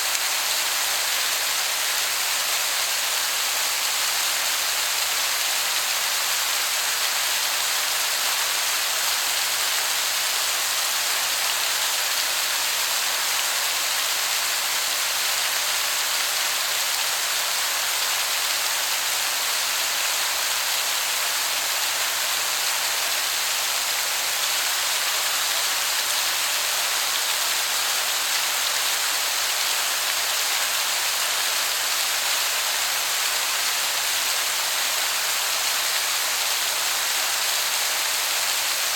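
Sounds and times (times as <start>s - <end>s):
distant waterfall hiss: 0.0s - 38.9s.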